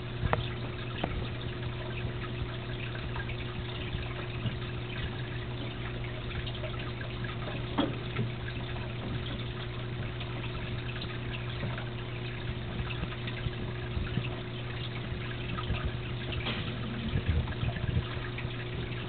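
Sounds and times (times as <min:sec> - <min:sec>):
aquarium pump humming: 0:00.0 - 0:19.0
aquarium water trickling: 0:00.0 - 0:19.0.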